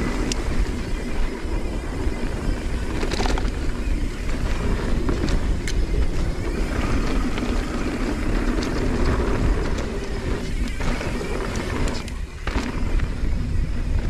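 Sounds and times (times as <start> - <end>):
bike clicks and rattles: 0.0 - 14.0
bike tyres rumbling on dirt: 0.0 - 14.0
wind on microphone: 0.0 - 14.0.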